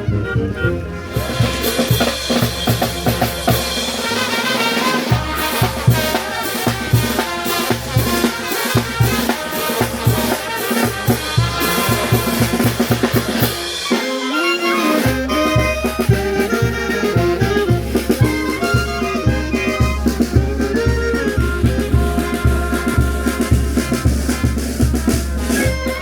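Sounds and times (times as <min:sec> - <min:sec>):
bass drum beat: 0:00.0 - 0:04.2, 0:05.1 - 0:13.7, 0:15.1 - 0:26.0
brass band playing: 0:00.0 - 0:26.0.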